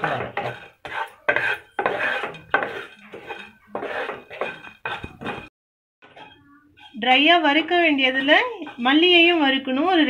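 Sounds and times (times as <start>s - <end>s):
wooden spatula scraping a pan: 0.0s - 10.0s.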